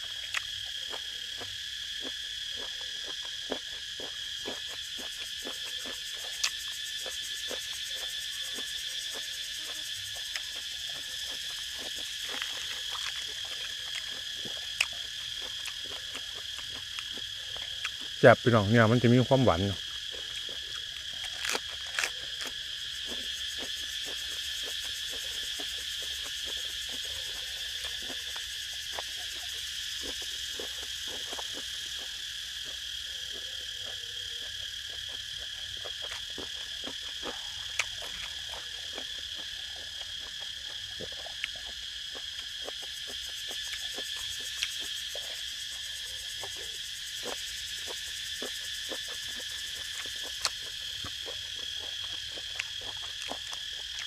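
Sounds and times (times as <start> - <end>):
chewing clicks: 0.0 - 54.0
insects chorus: 0.0 - 54.0.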